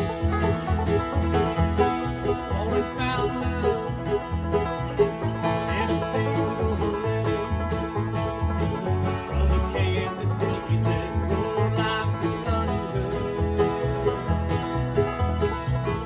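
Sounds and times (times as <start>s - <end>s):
alternating bass line: 0.0s - 16.0s
plucked strings: 0.0s - 16.0s.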